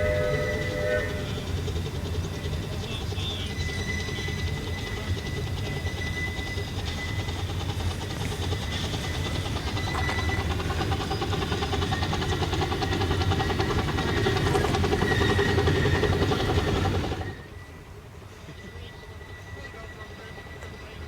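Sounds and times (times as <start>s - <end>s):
miniature train wheels rattling: 0.0s - 17.4s.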